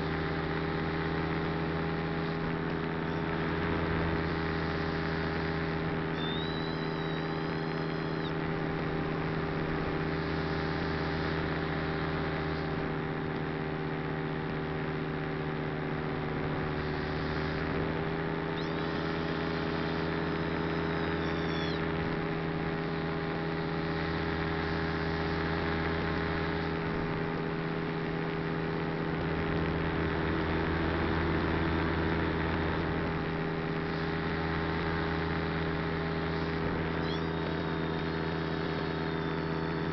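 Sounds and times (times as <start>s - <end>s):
model aircraft motor drone: 0.0s - 39.9s
thin high whine: 0.0s - 39.9s.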